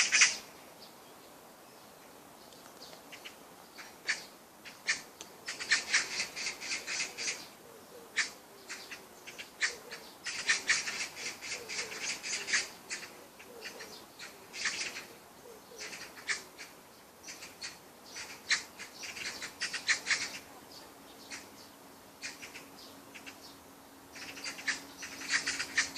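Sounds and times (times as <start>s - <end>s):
bird chirping: 0.0s - 25.9s.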